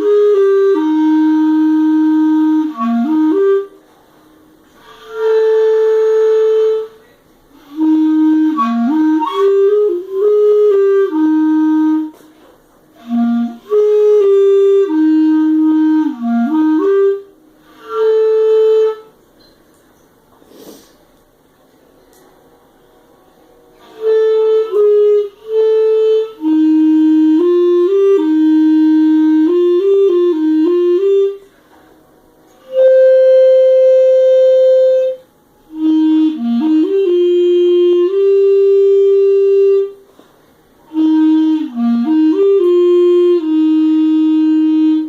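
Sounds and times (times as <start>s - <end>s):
clarinet playing slow melody: 0.0s - 19.2s, 23.3s - 45.0s.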